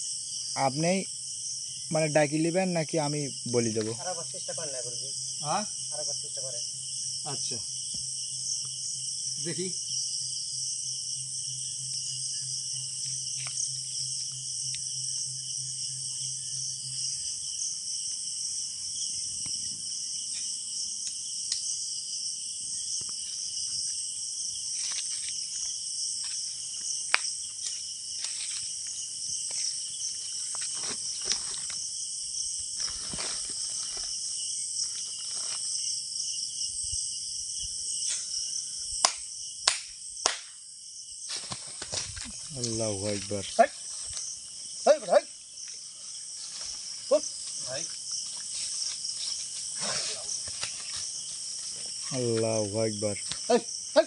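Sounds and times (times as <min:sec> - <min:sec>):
night insects chorus: 0:00.0 - 0:54.0.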